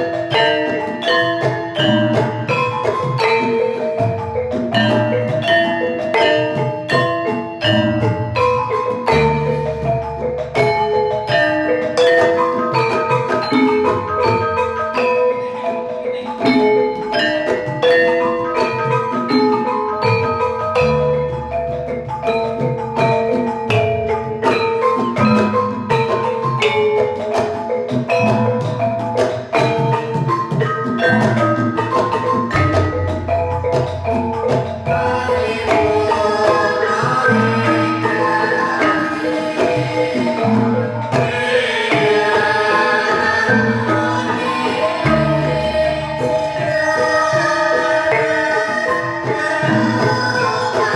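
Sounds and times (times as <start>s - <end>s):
metallophones ringing: 0.0s - 50.9s.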